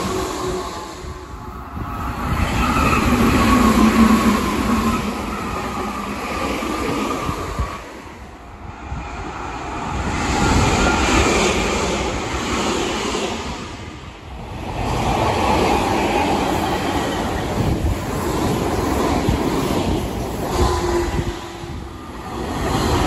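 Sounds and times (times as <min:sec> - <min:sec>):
electric trains running: 0:00.0 - 0:23.0.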